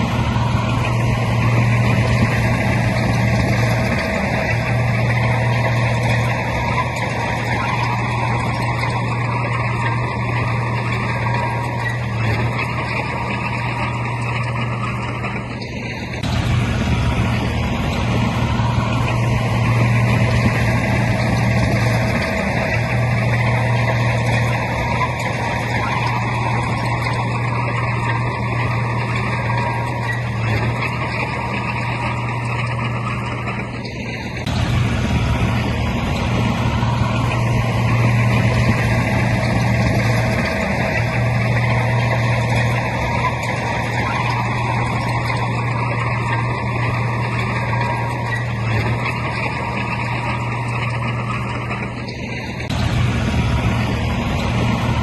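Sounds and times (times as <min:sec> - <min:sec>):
diesel earthmoving machinery running: 0:00.0 - 0:55.0.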